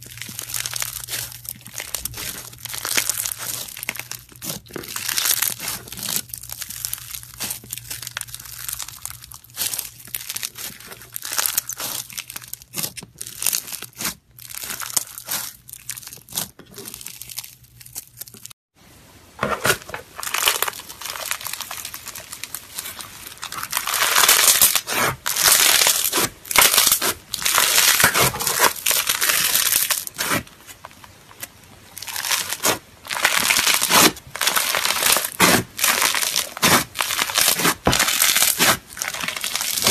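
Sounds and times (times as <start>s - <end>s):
crunchy slime squeezed by hand: 0.0s - 18.5s, 19.6s - 30.5s, 31.3s - 39.9s.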